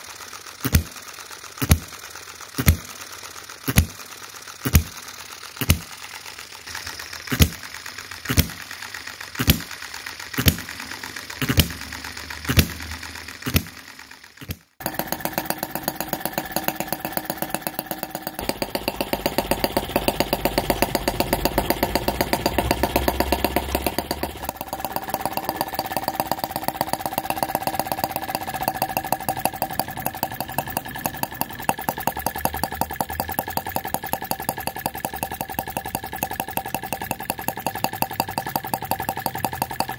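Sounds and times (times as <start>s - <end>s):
miniature engine popping: 0.0s - 39.9s
miniature engine running fast: 0.0s - 39.9s.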